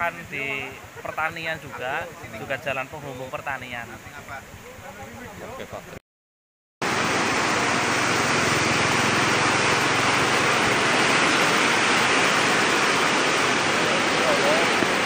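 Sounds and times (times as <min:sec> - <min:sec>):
river water rushing: 0:00.0 - 0:05.0, 0:06.8 - 0:15.0.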